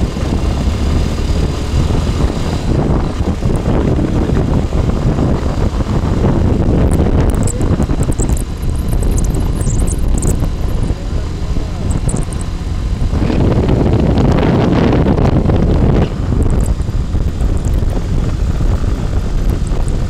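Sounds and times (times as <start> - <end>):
motorcycle engine droning: 0.0 - 20.0
wind rush on microphone: 0.0 - 20.0.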